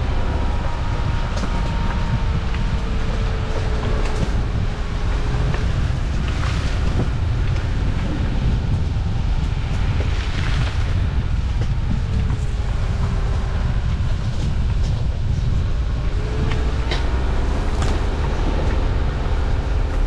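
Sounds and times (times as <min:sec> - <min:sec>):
vehicle rumbling on rough track: 0:00.0 - 0:20.0
wind buffeting microphone: 0:00.0 - 0:20.0.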